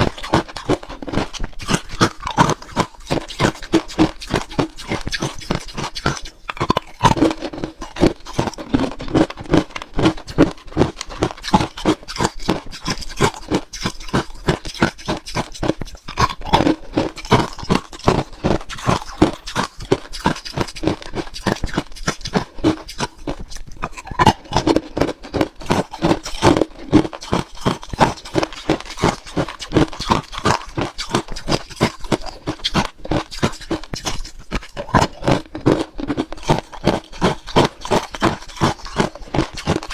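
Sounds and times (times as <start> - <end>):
person chewing crunchy ice: 0.0 - 39.9
wet mouth sounds: 0.0 - 39.9.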